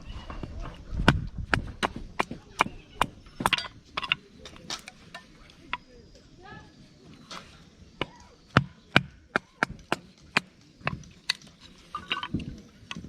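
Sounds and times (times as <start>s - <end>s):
firewood being chopped: 0.0s - 5.9s, 7.3s - 13.0s.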